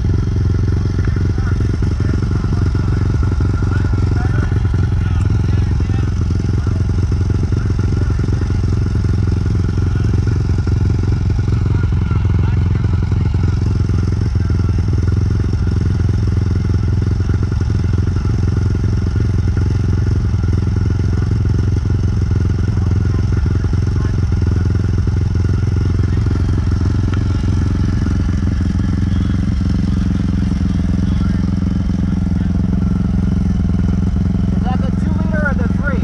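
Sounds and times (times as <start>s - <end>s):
two-stroke dirt bike engine: 0.0s - 36.0s.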